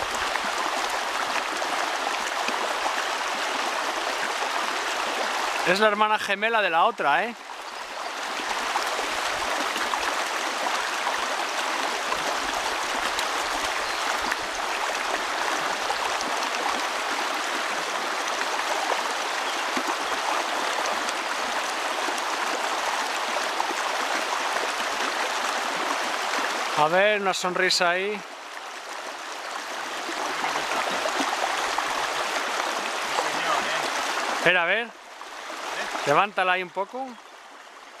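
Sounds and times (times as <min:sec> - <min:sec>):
river water rushing: 0:00.0 - 0:38.0.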